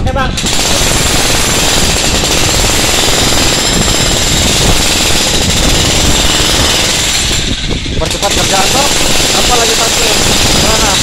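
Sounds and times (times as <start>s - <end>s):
demolition hammer breaking concrete: 0.4s - 11.0s.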